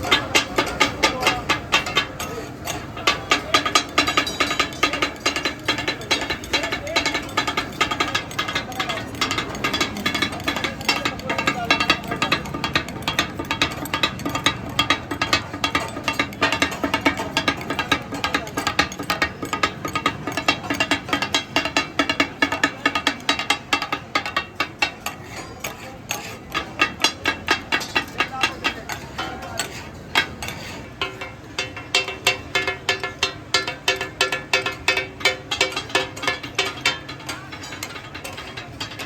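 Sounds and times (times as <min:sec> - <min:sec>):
metal spatulas chopping on iron griddle: 0:00.0 - 0:39.0.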